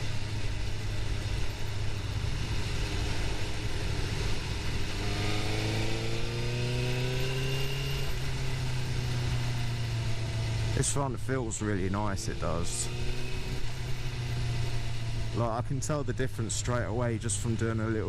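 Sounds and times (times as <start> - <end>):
motorcycle engine revving: 0.0 - 16.5.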